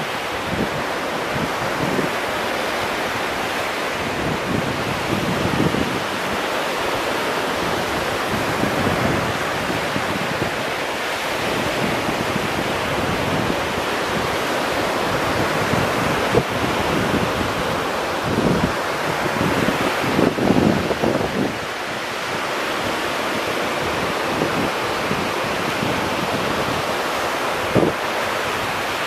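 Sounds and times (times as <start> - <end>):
waves breaking on beach: 0.0 - 29.0
wind buffeting microphone: 0.0 - 29.0.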